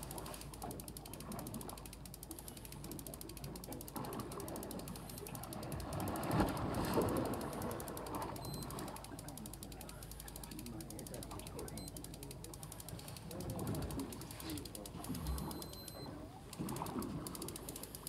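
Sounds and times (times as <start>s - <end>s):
fishing reel gears clicking: 0.0s - 18.0s
water splashing: 0.0s - 18.0s.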